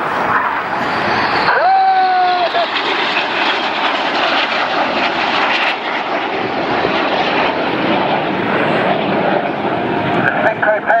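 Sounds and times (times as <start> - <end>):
jets flying by: 0.0 - 11.0.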